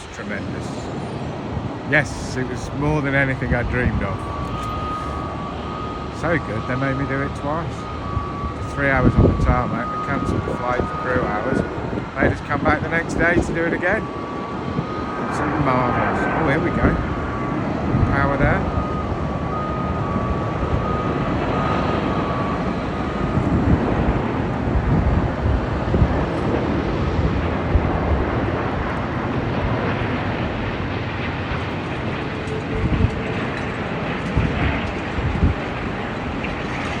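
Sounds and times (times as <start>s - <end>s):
faint whine: 0.0s - 37.0s
jet engines at takeoff power: 0.0s - 37.0s.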